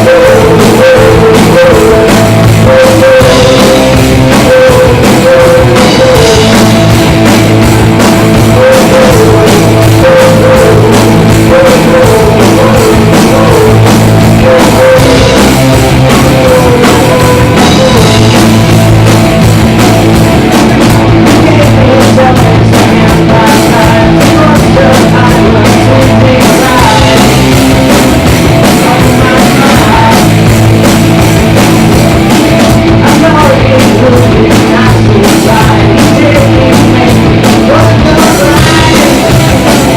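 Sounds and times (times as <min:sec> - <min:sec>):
drum kit: 0:00.0 - 0:39.9
rock band playing live: 0:00.0 - 0:39.9.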